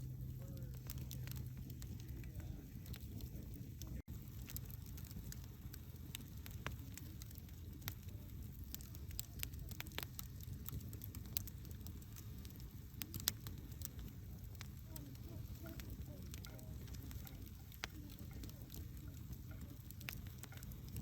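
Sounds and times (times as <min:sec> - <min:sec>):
burning wood crackling and popping: 0:00.0 - 0:21.0
campfire flame rumble: 0:00.0 - 0:21.0.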